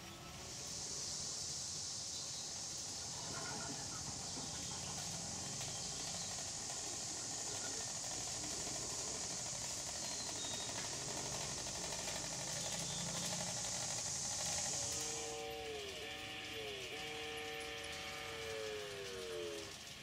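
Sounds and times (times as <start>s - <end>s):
model train rattling on track: 0.0s - 20.0s
steady high hiss: 0.0s - 20.0s.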